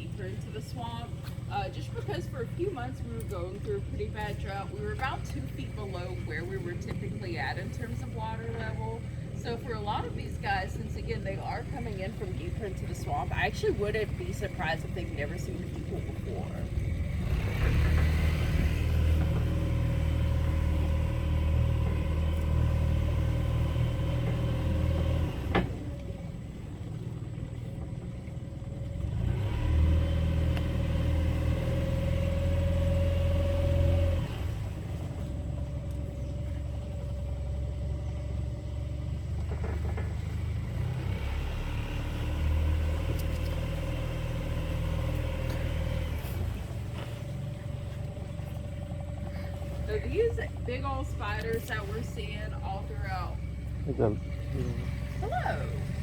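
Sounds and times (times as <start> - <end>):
boat motor running: 0.0 - 56.0.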